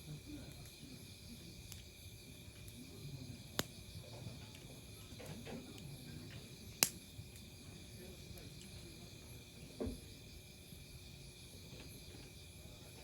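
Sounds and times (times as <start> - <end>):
crickets chirping: 0.0 - 13.0
faint low murmur: 0.0 - 13.0.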